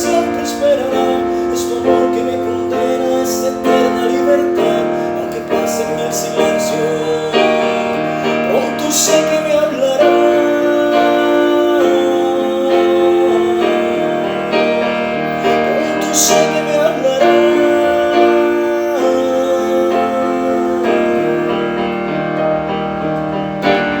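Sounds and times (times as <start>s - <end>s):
piano ballad: 0.0s - 24.0s.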